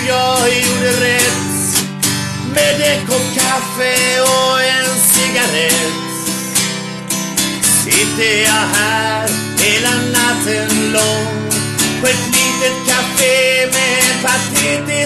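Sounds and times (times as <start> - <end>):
man singing: 0.0 - 6.6, 7.5 - 15.0
acoustic guitar strumming: 0.0 - 15.0.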